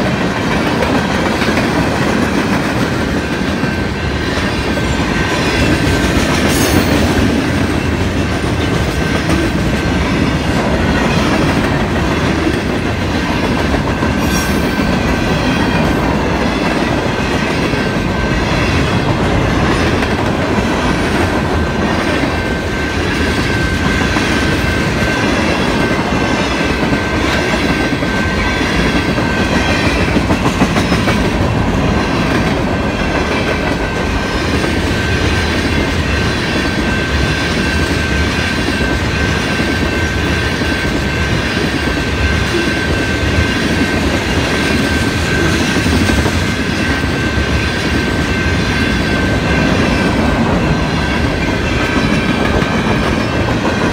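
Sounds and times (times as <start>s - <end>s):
clickety-clack over rail joints: 0.0s - 53.9s
train wheels rumbling on rails: 0.0s - 53.9s.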